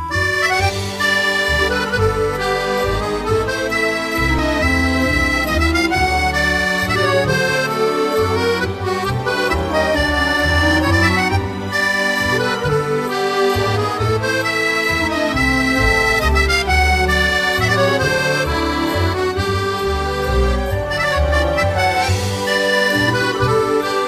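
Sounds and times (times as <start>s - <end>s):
bass notes: 0.0s - 24.0s
reedy keyboard melody: 0.0s - 24.0s.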